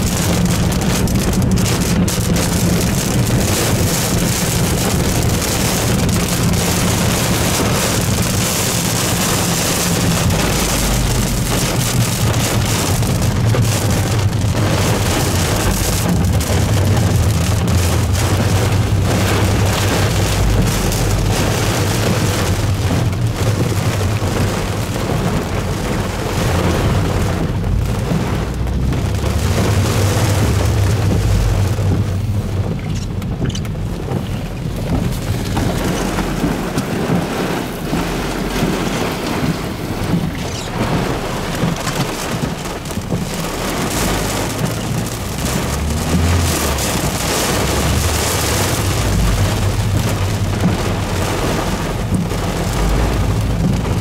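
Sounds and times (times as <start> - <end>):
deep low rumble: 0.0 - 54.0
heavy rain on car windshield: 0.0 - 54.0.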